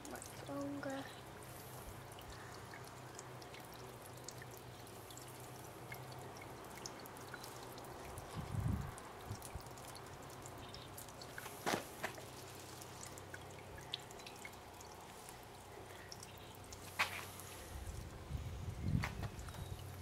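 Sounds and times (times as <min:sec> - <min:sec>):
fountain water falling on pebbles: 0:00.0 - 0:20.0
water splashes: 0:00.0 - 0:20.0.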